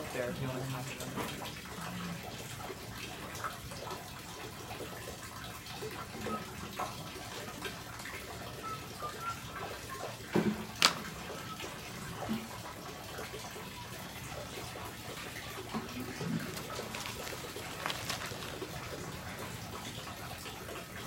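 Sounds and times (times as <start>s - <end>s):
water running: 0.0s - 21.0s.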